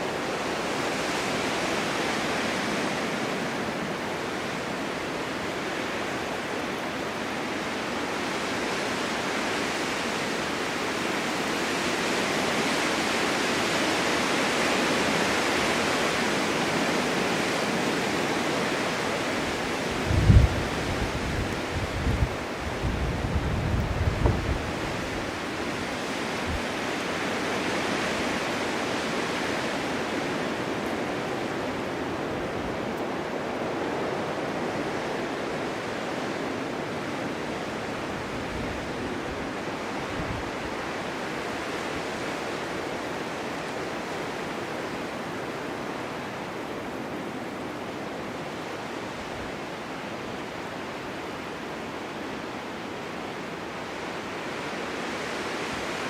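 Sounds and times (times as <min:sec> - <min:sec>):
wind blowing: 0:00.0 - 0:56.0.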